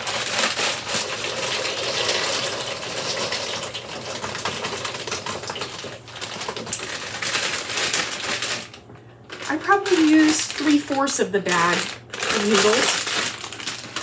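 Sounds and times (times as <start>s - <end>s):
dry pasta rattling into pot: 0.0s - 14.0s.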